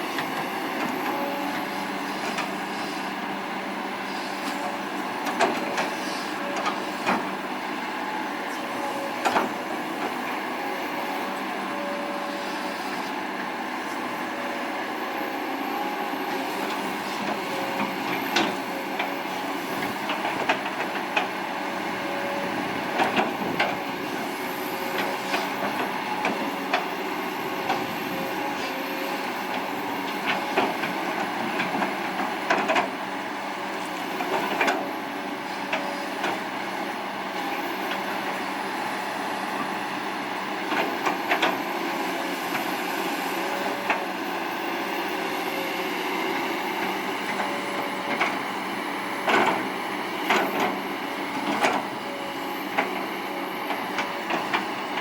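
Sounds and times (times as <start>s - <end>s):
excavator running with whine: 0.0s - 55.0s.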